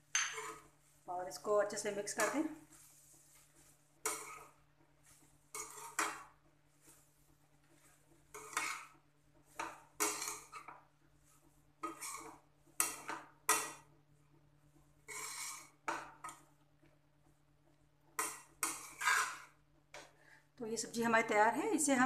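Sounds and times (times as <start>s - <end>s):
spatula scraping a pan: 0.0s - 17.4s, 18.1s - 20.4s.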